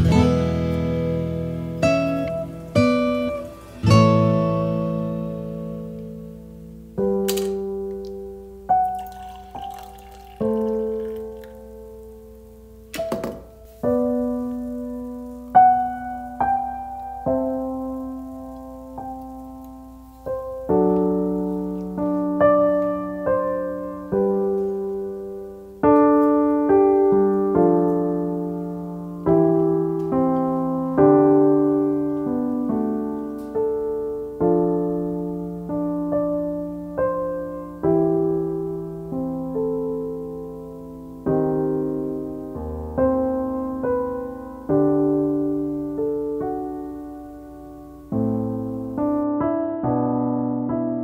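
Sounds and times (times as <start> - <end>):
slow piano music: 0.0 - 51.0.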